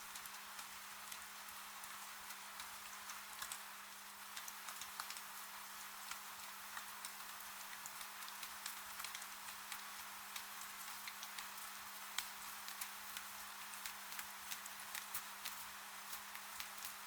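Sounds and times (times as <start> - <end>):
rain hiss: 0.0 - 17.0
raindrops ticking on hard surface: 0.1 - 17.0.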